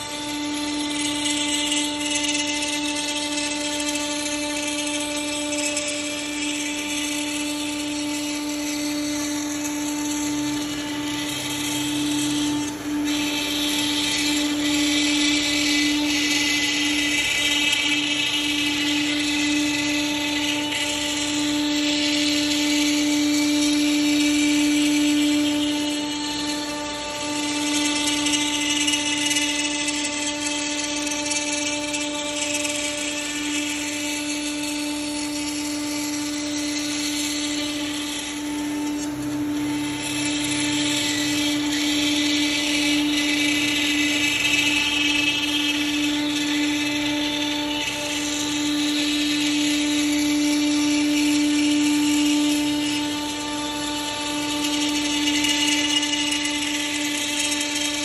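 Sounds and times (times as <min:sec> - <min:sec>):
router spindle cutting wood: 0:00.0 - 0:58.0.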